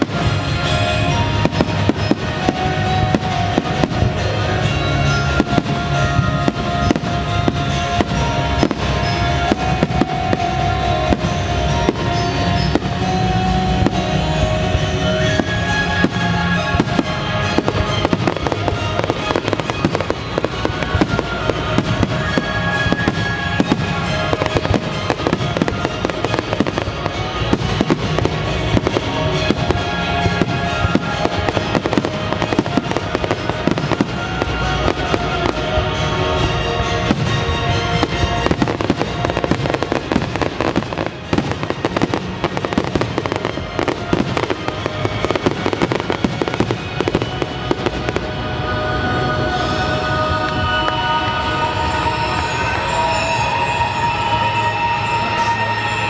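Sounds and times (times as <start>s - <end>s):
fireworks bursting and crackling: 0.0s - 49.8s
music playing: 0.0s - 56.0s.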